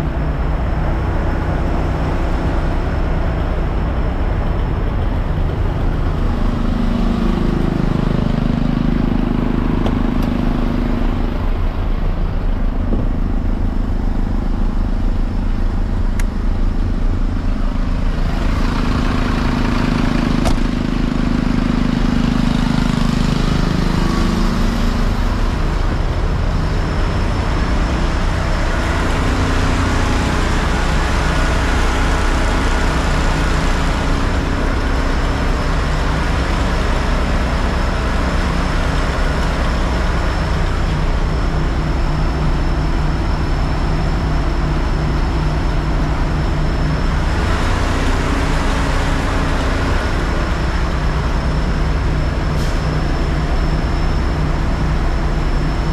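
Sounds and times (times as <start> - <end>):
fire truck engine running: 0.0 - 55.9.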